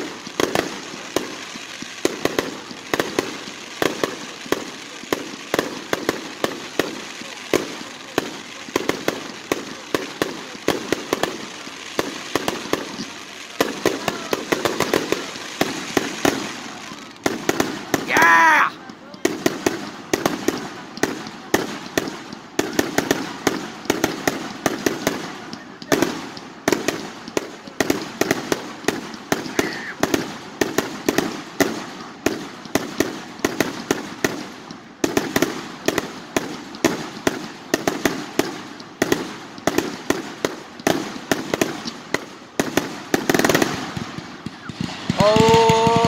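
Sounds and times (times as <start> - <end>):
crackling pops: 0.0 - 46.0
fireworks bangs: 0.0 - 46.0.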